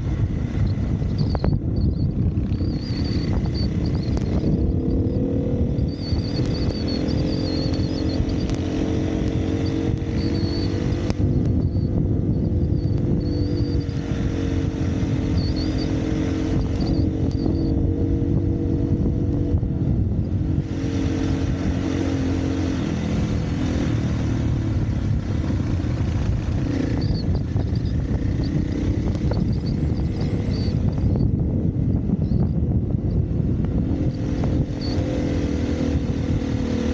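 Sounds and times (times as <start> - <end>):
bike chatter on rough ground: 0.0 - 19.5, 20.1 - 36.9
dirt bike engine running: 0.0 - 36.9.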